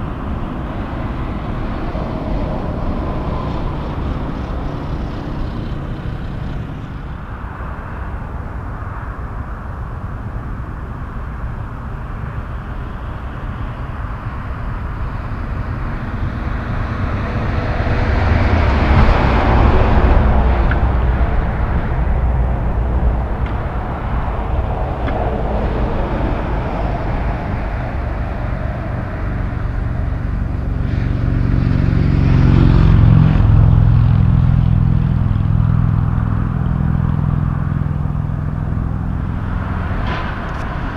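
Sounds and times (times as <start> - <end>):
deep engine drone: 0.0 - 40.9
highway traffic rumble: 0.0 - 40.9.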